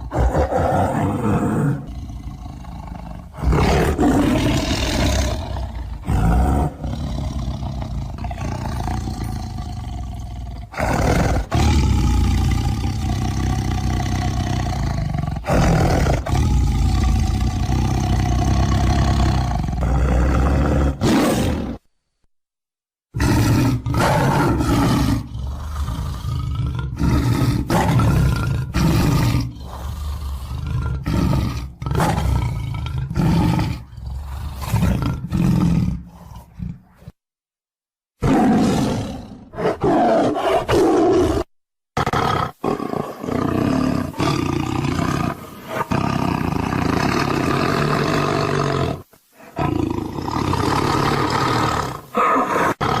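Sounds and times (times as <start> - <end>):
large animal roaring: 0.0 - 21.8, 23.2 - 37.0, 38.2 - 53.0.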